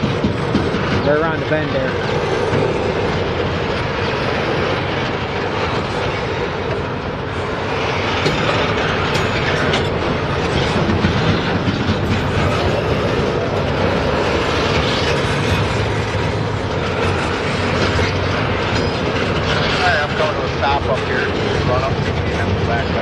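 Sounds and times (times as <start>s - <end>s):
freight train wheels rumbling on rail: 0.0s - 23.0s.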